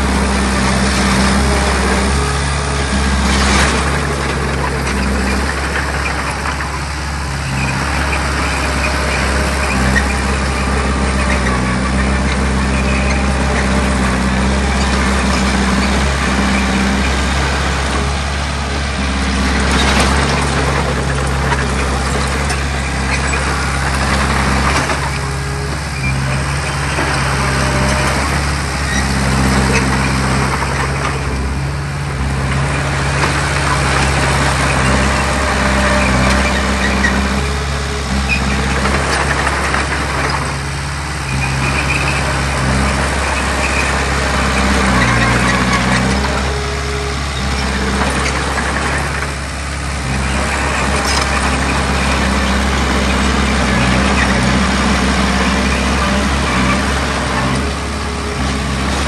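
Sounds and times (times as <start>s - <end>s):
heavy diesel engine running: 0.0s - 59.0s
rough grinding noise: 0.0s - 59.0s.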